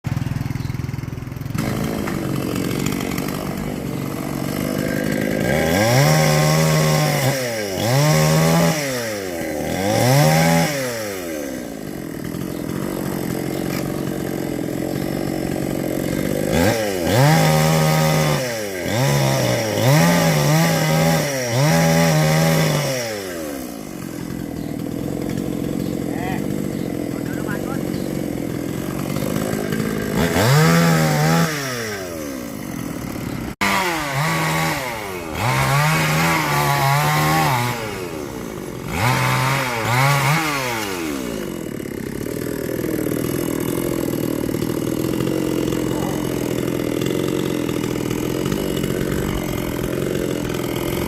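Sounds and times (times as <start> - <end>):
chainsaw engine revving: 0.0 - 51.0.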